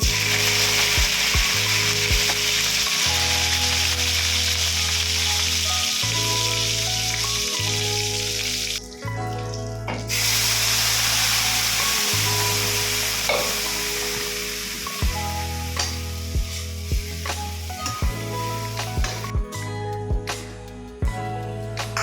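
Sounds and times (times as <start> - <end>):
food sizzling in a pan: 0.0 - 8.8, 10.1 - 19.3
background music bass notes: 0.0 - 22.0.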